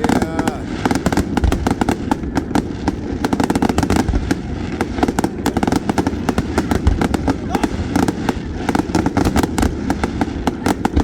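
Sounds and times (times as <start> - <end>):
fireworks popping and banging: 0.0 - 11.0.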